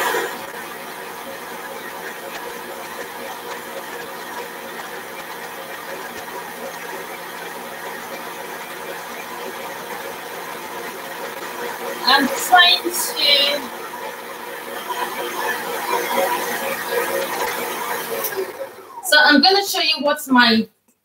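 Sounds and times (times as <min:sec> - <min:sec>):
stand mixer motor whirring: 0:00.0 - 0:19.5.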